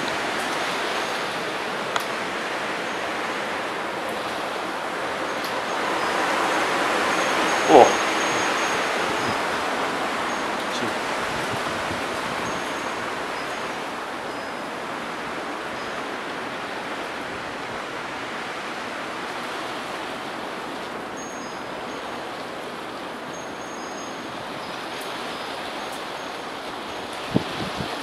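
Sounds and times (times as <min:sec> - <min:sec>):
strong wind: 0:00.0 - 0:23.3, 0:26.6 - 0:28.0
heavy rain: 0:00.0 - 0:28.0.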